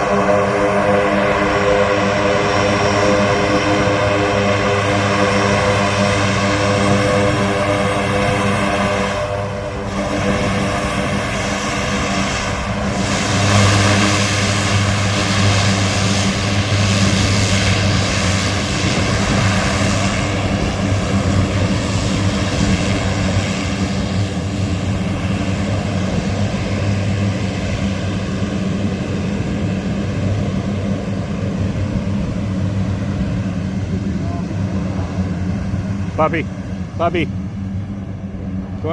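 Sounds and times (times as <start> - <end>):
propeller aircraft engines droning: 0.0 - 38.9.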